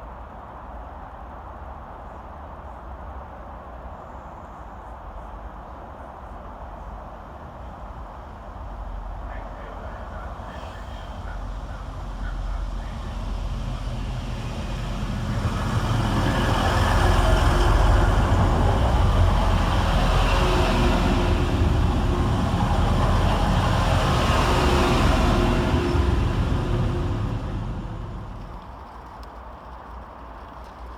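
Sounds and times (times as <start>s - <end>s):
diesel train rumbling: 5.2s - 30.9s.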